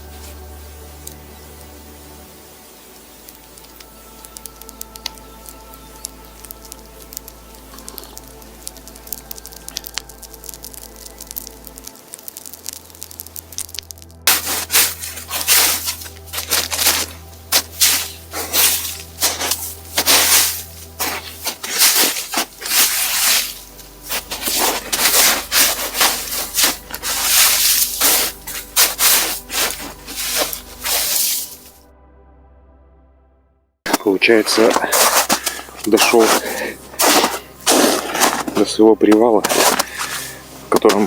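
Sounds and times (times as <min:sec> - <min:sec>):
footsteps crunching through snow: 0:00.0 - 0:00.9, 0:05.0 - 0:31.8, 0:33.9 - 0:41.0.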